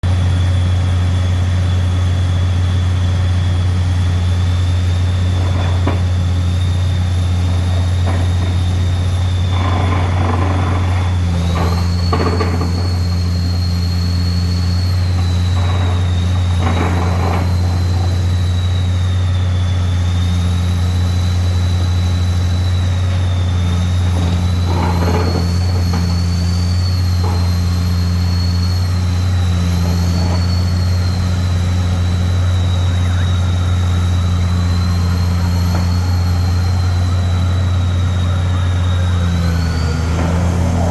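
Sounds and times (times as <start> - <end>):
vibratory hammer humming and whining: 0.0 - 40.9.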